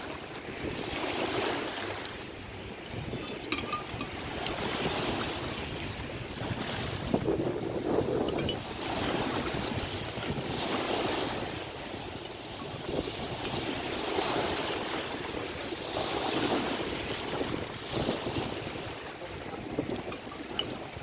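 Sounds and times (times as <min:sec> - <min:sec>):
sea waves breaking on shore: 0:00.0 - 0:21.0
wind rumbling on microphone: 0:00.0 - 0:21.0.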